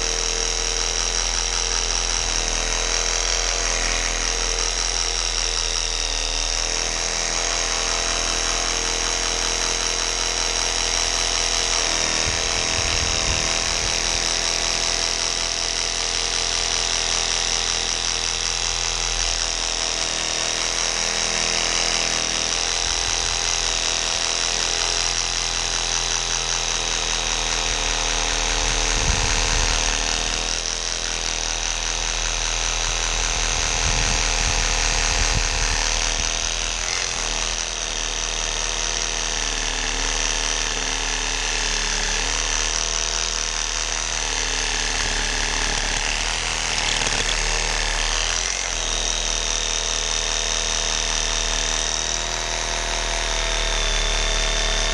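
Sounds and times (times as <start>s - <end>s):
reciprocating saw cutting wood: 0.0s - 54.9s.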